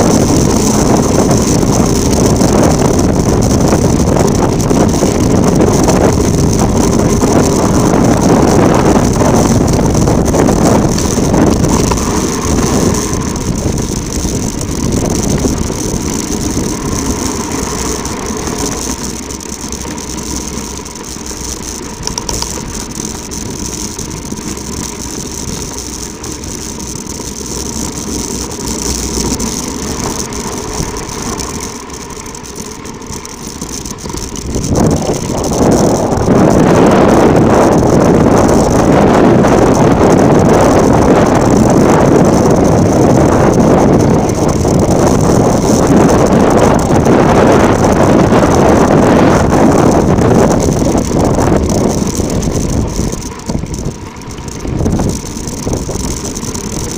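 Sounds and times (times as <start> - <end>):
rattle on rough track: 0.0 - 56.9
wind on microphone: 0.0 - 56.9.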